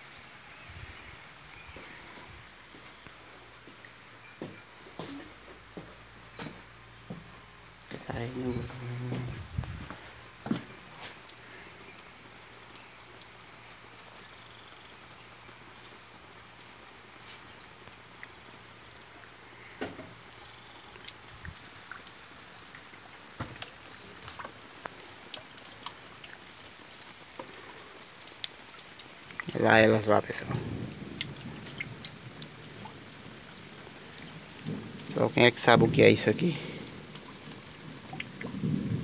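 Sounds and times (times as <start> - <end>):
raindrops ticking and pattering: 0.0 - 39.0
steady rain falling: 0.0 - 39.0.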